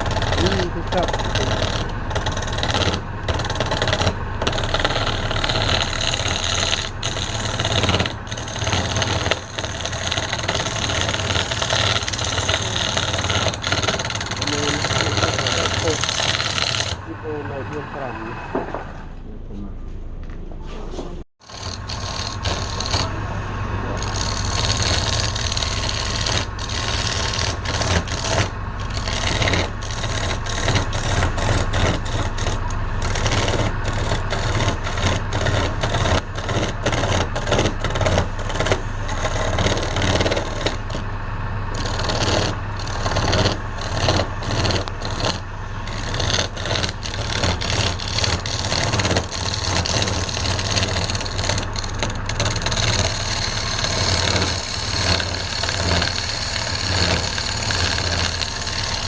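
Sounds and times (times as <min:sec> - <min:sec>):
turning tool scraping wood: 0:00.0 - 0:19.0, 0:20.9 - 0:59.0
wood lathe motor hum: 0:00.0 - 0:19.0, 0:21.4 - 0:59.0.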